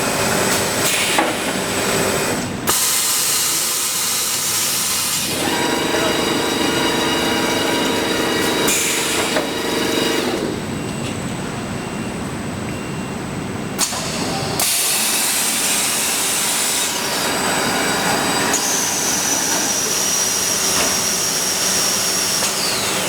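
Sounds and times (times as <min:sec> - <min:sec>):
factory machinery running: 0:00.0 - 0:23.0.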